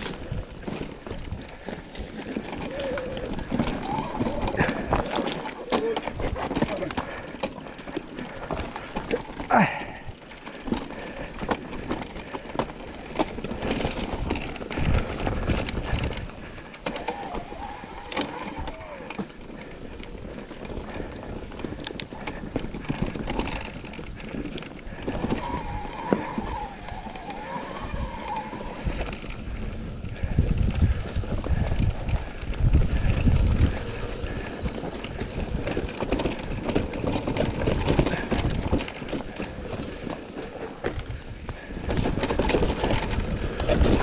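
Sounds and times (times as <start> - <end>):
bike rattling over rough trail: 0.0 - 44.0.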